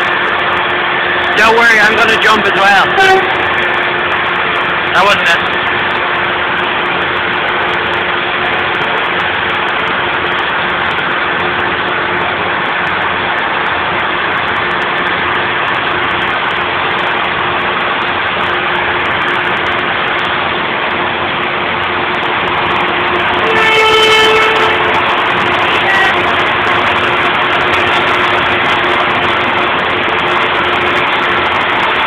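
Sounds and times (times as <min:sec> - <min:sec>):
train hissing and rumbling: 0:00.0 - 0:32.0.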